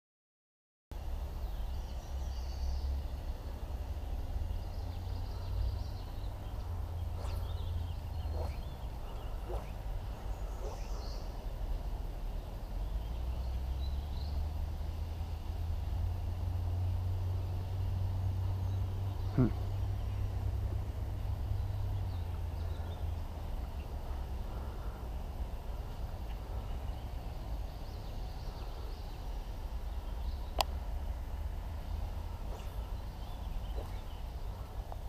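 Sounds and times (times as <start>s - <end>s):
background rush: 1.0s - 35.0s
birds chirping: 1.0s - 35.0s
wind rumble on microphone: 1.2s - 35.0s.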